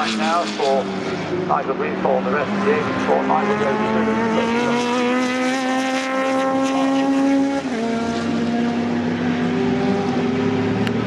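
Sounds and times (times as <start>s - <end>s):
racing car engine revving: 0.0s - 11.0s
second car engine: 0.0s - 11.0s.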